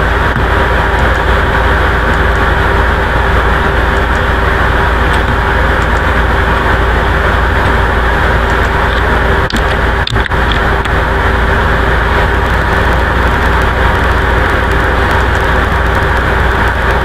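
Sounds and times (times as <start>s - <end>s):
faint constant hum: 0.0s - 17.0s
loud rushing noise: 0.0s - 17.0s.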